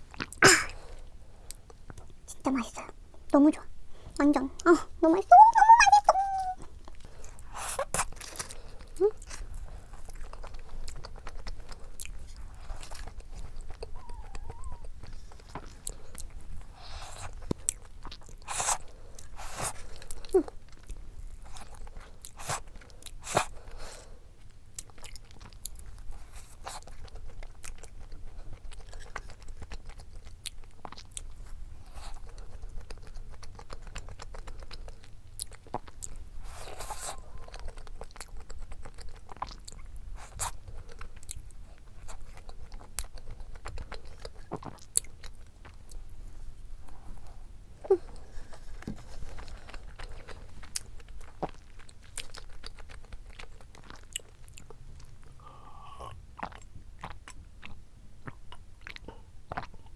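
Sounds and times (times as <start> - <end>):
person chewing: 0.0 - 2.2, 5.6 - 46.2, 46.8 - 59.9.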